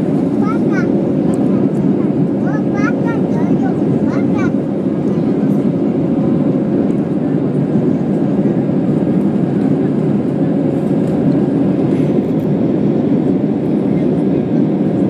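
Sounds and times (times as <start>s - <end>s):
airliner cabin engine noise: 0.0s - 15.0s.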